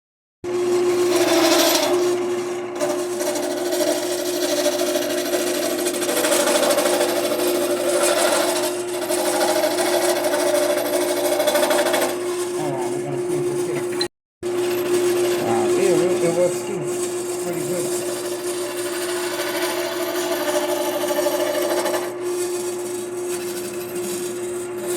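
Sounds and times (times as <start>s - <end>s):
cutting tool scraping metal: 0.8s - 24.9s
lathe motor humming: 0.8s - 24.9s.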